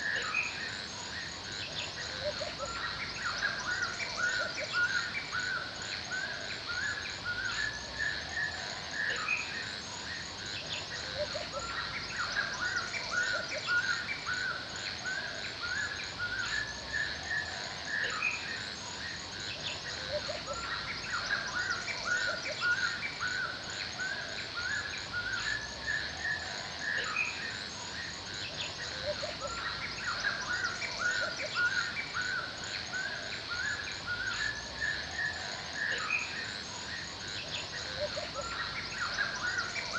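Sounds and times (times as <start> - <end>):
insects droning: 0.0 - 39.9
small birds chirping: 0.0 - 39.9.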